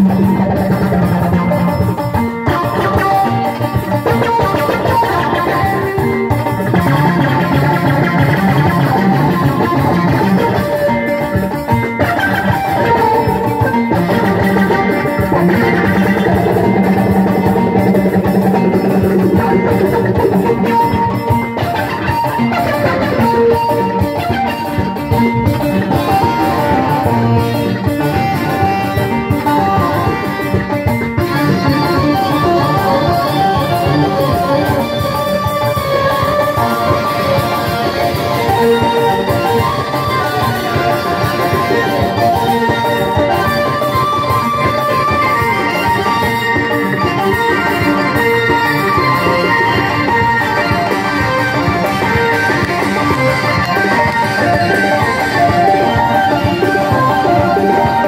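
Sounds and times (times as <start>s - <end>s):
drums: 0.0s - 58.0s
plucked strings: 0.0s - 58.0s.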